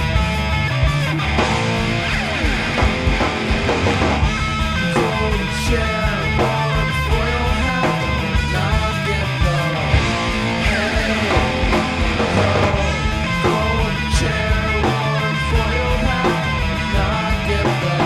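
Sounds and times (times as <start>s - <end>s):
loud rock music: 0.0s - 18.0s.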